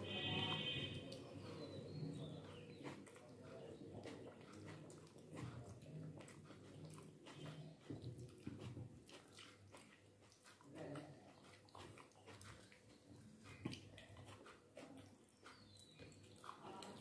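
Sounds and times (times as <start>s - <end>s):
chewing and mouth smacks: 0.0s - 17.0s
fingers mixing rice on plate: 0.0s - 17.0s.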